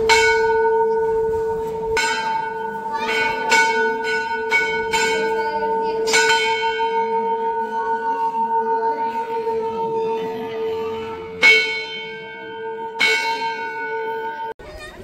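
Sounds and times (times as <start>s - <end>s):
bell ringing: 0.0s - 14.6s
bells struck by hand: 0.0s - 14.6s.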